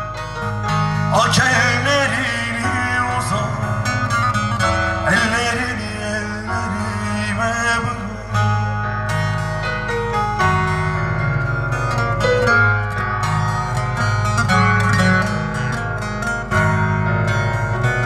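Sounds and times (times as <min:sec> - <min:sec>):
keyboard accompaniment: 0:00.0 - 0:18.0
plucked lute melody: 0:00.0 - 0:18.0.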